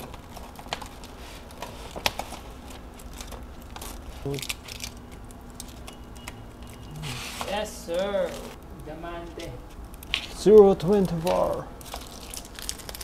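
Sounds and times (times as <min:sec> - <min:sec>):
vinyl film rustling and crinkling: 0:00.0 - 0:13.0.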